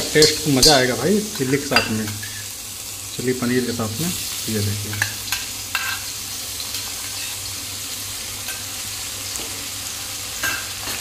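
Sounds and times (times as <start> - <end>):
aromatics sizzling in hot oil: 0.0 - 11.0.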